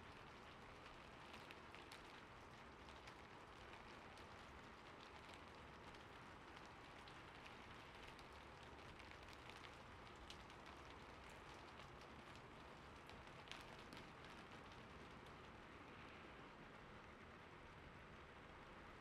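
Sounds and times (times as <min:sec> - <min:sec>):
faint rain: 0:00.0 - 0:19.0
raindrops ticking: 0:00.1 - 0:15.6.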